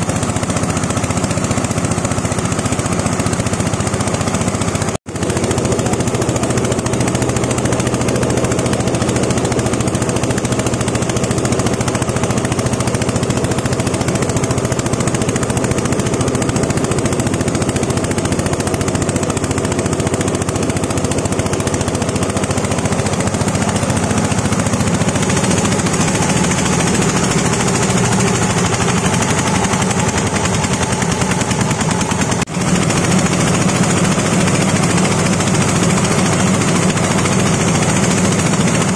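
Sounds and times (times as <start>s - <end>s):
grinding machine running: 0.0s - 38.9s.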